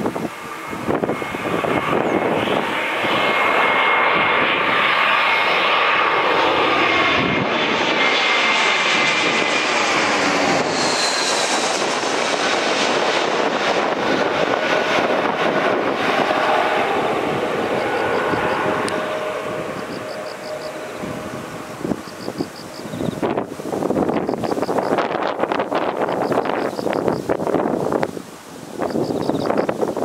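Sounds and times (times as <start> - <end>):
high jet engine whine: 0.0 - 30.0
jet airliner roar overhead: 0.0 - 30.0.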